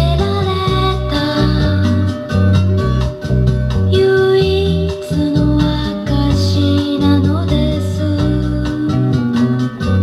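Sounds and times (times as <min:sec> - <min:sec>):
pop music with guitar and bass: 0:00.0 - 0:10.0.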